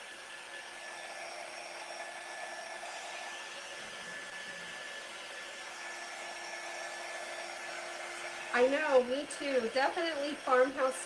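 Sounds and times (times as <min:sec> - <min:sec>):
electric air blower whooshing: 0:00.0 - 0:11.0.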